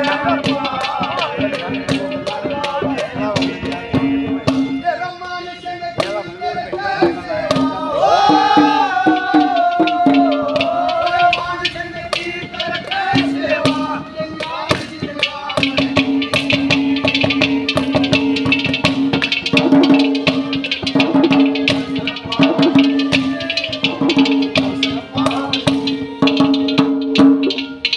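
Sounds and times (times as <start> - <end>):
hand drum fast strokes: 0.0 - 4.8, 6.8 - 27.9
person singing: 0.0 - 18.8, 21.0 - 26.8.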